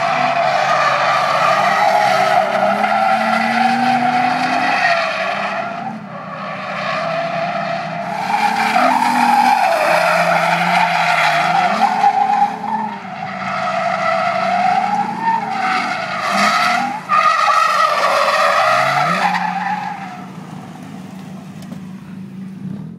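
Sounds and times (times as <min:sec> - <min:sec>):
car engine revving: 0:00.0 - 0:22.9
tyres squealing: 0:00.1 - 0:20.4.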